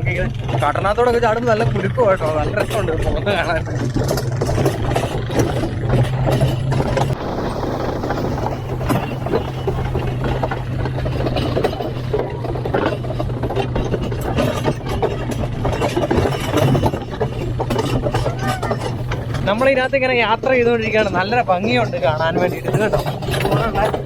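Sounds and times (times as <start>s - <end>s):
tractor engine running: 0.0s - 24.0s
wagons rattling over rough ground: 0.0s - 24.0s.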